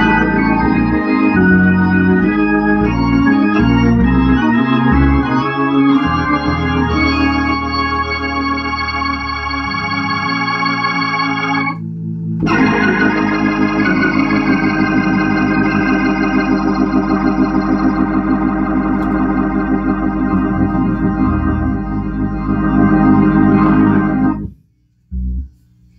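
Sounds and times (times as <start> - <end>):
organ chords with warble: 0.0 - 25.6.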